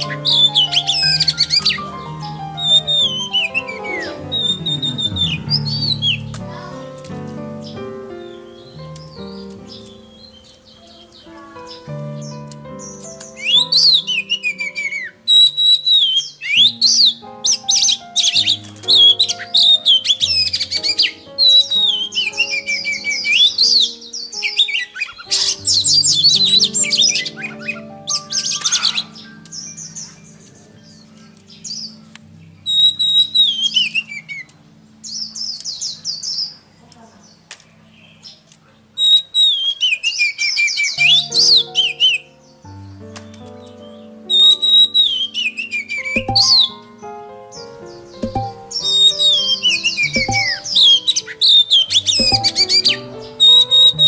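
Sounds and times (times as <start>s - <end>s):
held keyboard notes music: 0.0s - 33.7s, 41.0s - 54.0s
songbird singing: 0.0s - 54.0s.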